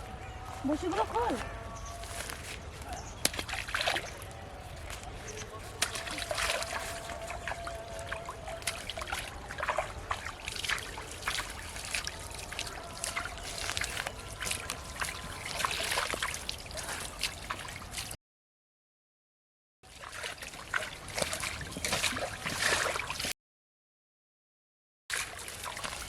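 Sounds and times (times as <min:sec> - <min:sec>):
water trickling and splashing: 0:00.0 - 0:18.2, 0:19.9 - 0:23.3, 0:25.1 - 0:26.0.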